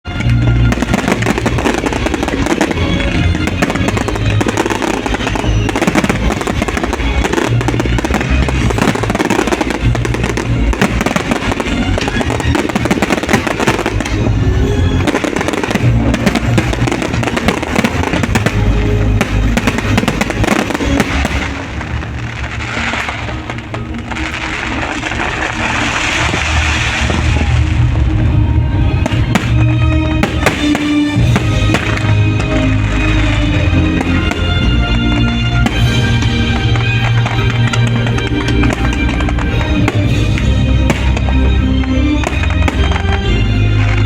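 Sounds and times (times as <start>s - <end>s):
loud music: 0.0s - 44.0s
fireworks bangs and crackles: 0.1s - 44.0s.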